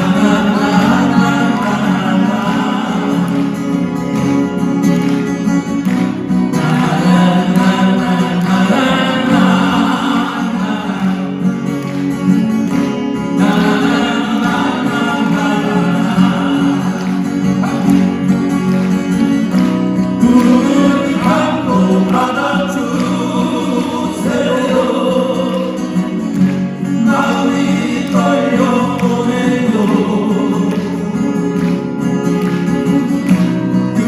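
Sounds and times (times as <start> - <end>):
men singing: 0.0 - 4.4, 6.4 - 11.9, 13.2 - 33.4
acoustic guitars strumming: 0.0 - 34.0.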